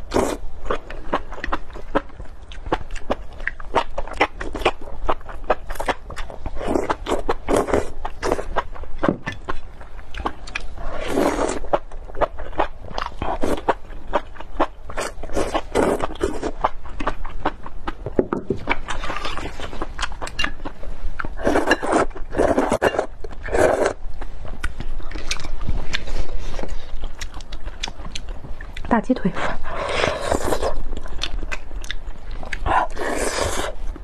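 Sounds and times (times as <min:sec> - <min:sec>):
chewing: 0:00.2 - 0:28.9, 0:29.5 - 0:34.0.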